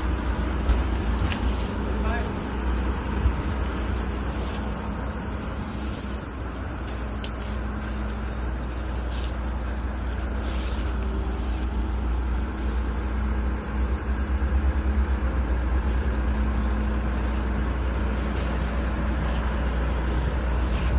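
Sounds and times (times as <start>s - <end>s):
boat engine rumble: 0.0s - 20.9s
rushing wind: 0.0s - 20.9s.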